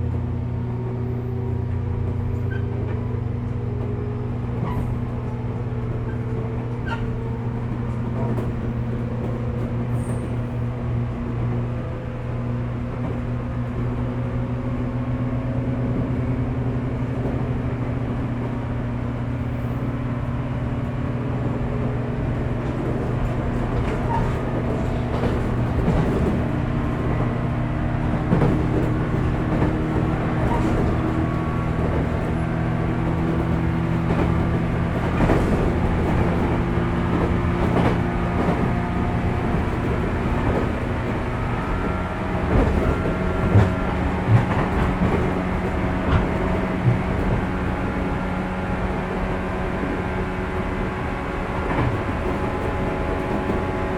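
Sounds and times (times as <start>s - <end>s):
wheels clacking on track: 0.0s - 14.3s, 15.9s - 53.9s
train wheels rumbling: 0.0s - 53.9s.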